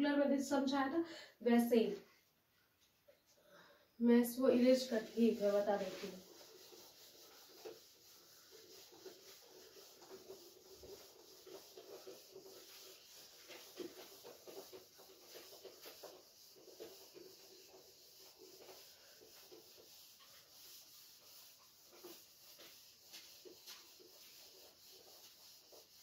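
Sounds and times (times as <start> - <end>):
duster rubbing on whiteboard: 4.3 - 26.0.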